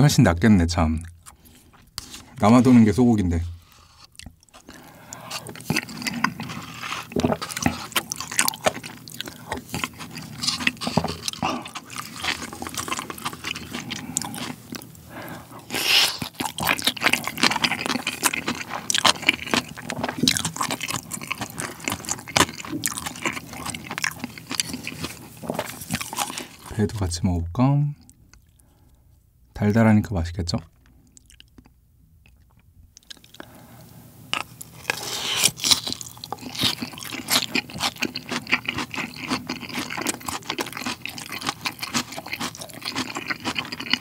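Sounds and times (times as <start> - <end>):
wet chewing: 3.6 - 26.7, 30.8 - 33.5, 34.3 - 44.0.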